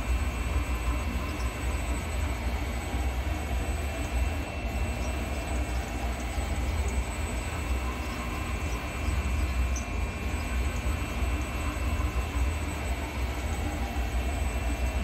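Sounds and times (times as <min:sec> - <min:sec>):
faint high whine: 0:00.0 - 0:15.0
milling machine whirring: 0:00.0 - 0:15.0.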